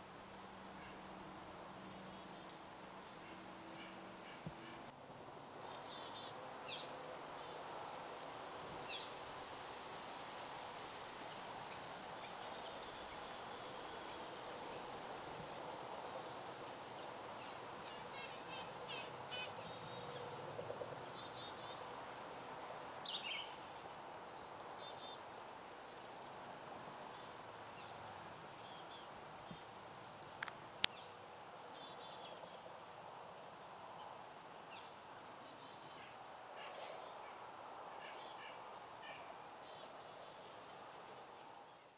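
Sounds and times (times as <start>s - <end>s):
outdoor background hiss: 0.0s - 41.9s.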